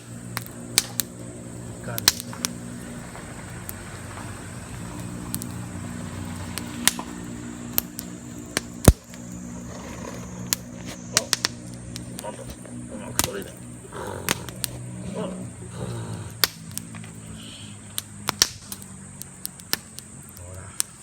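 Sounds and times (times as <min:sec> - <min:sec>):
campfire crackling and popping: 0:00.0 - 0:21.0
steady low hum: 0:00.0 - 0:21.0.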